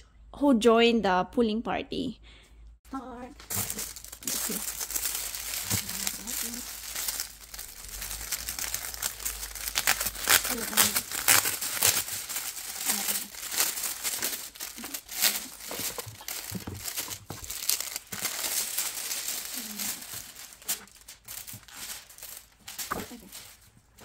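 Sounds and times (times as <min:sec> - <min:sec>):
packaging crinkling and tearing: 0:03.3 - 0:24.0.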